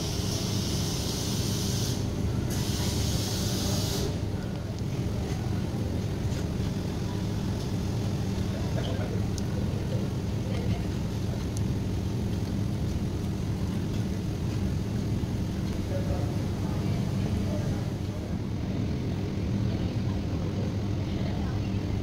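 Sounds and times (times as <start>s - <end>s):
kitchen machinery hum: 0.0s - 22.0s.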